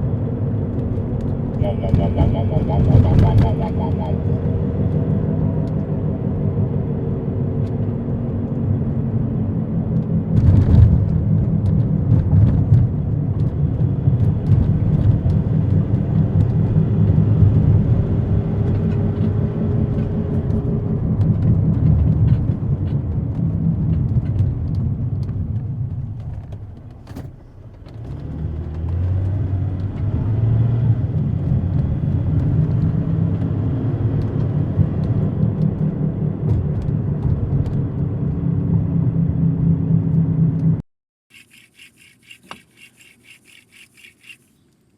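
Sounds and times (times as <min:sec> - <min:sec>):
car rumbling drone on road: 0:00.0 - 0:40.8.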